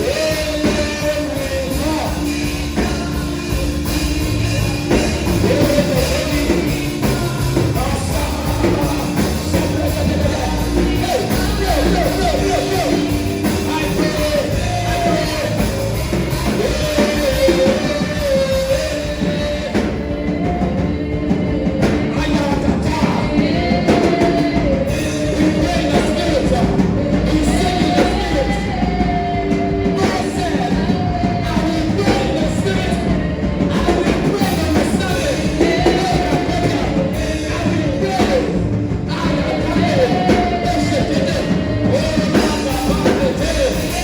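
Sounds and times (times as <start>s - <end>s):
loud instrumental accompaniment: 0.0s - 44.0s
voices singing gospel: 0.0s - 44.0s.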